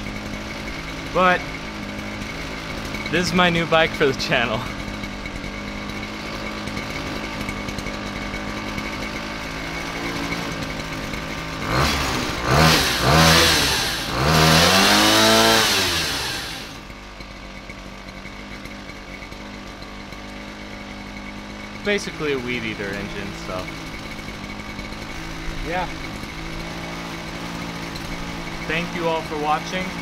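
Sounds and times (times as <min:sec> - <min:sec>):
pocket bike engine idling and revving: 0:00.0 - 0:30.0.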